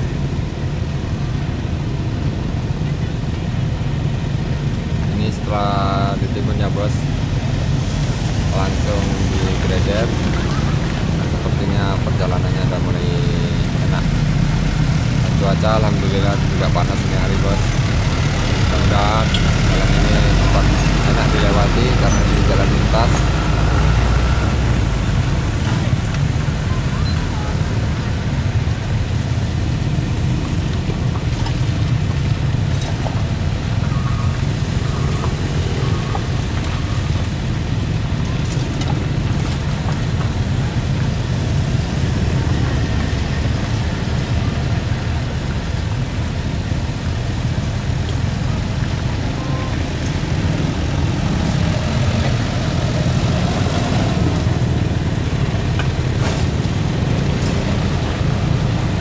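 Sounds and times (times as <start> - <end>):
low engine rumble: 0.0 - 59.0
vehicles driving on dirt road: 0.0 - 59.0.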